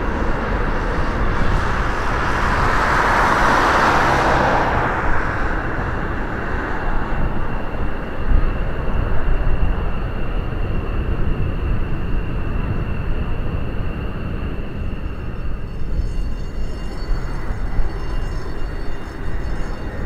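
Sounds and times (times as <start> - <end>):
high engine whine: 0.0 - 20.0
jet engines rumbling: 0.0 - 20.0.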